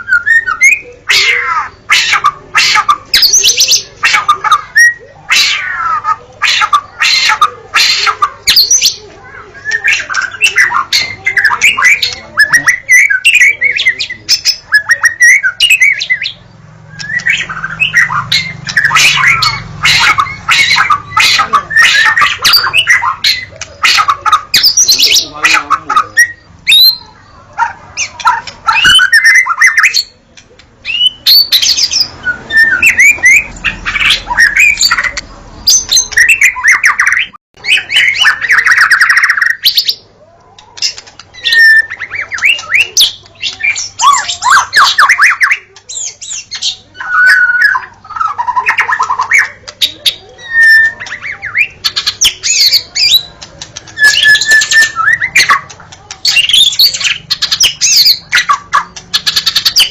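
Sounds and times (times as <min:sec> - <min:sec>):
songbird singing whistles and trills: 0:00.0 - 0:05.6, 0:06.5 - 0:27.2, 0:28.0 - 0:30.2, 0:30.8 - 0:40.0, 0:40.6 - 0:59.9.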